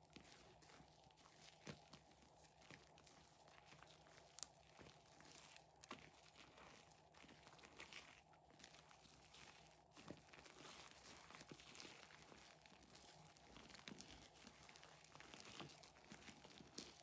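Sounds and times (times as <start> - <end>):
slime crinkling and clicking: 0.1 - 17.0.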